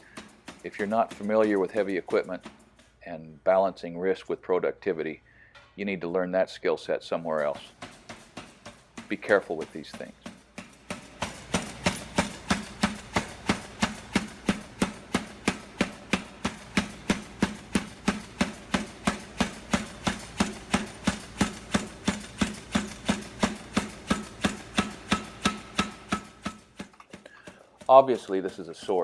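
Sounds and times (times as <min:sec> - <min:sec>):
forging hammer striking: 0:00.0 - 0:02.8, 0:07.3 - 0:29.0.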